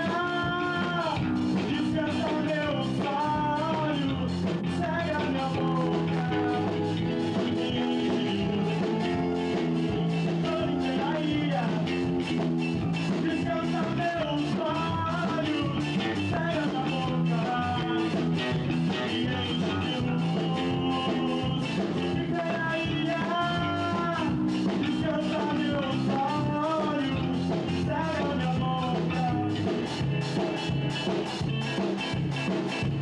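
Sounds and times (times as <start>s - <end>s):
man singing into a microphone: 0.0s - 9.1s, 10.0s - 12.2s, 12.9s - 29.7s
live rock band playing: 0.0s - 33.0s.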